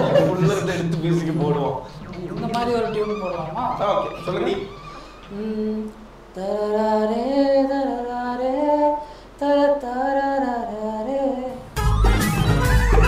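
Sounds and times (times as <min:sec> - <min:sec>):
person singing unaccompanied: 0:01.9 - 0:13.0.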